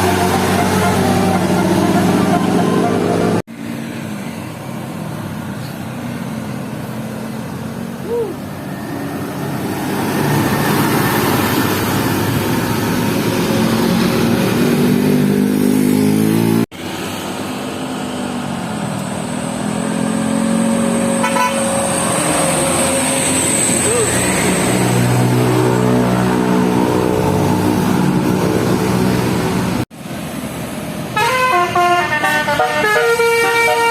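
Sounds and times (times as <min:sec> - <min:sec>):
bus engines passing: 0:00.0 - 0:33.9.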